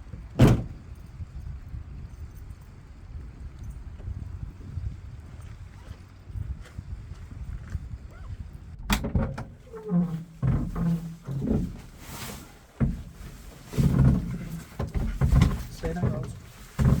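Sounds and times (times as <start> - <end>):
rustles and bumps of gear: 0.0 - 17.0.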